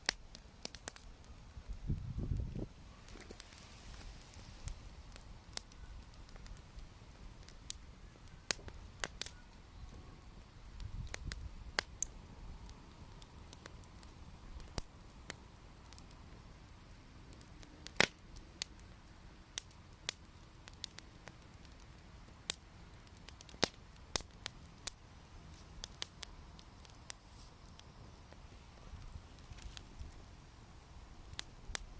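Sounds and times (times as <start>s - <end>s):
bonfire popping and snapping: 0.0s - 31.9s
fire hissing: 0.0s - 31.9s.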